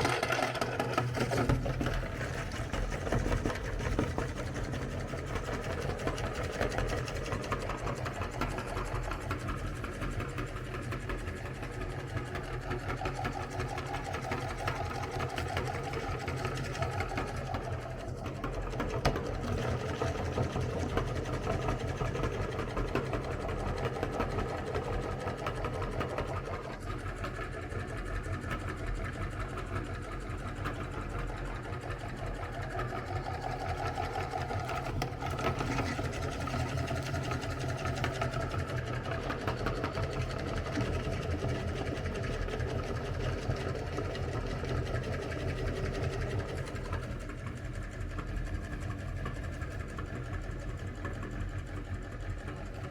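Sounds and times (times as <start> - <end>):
electric meat grinder running: 0.0 - 52.3.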